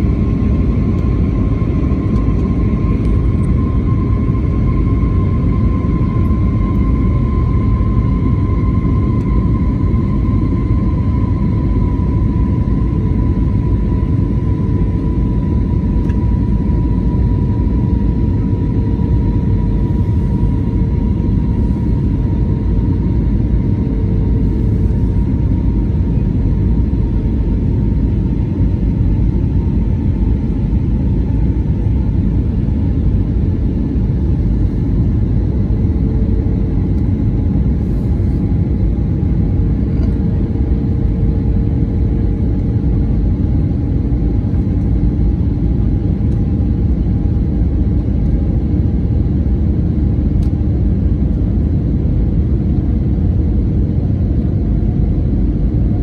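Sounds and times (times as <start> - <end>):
jet engines in cabin: 0.0 - 56.0.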